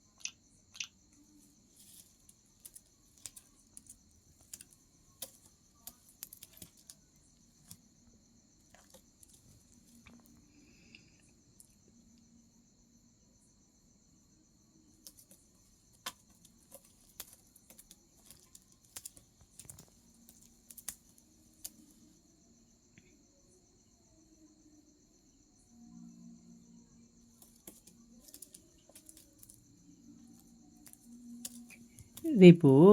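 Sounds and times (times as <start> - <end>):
crickets chirring: 0.0 - 32.9.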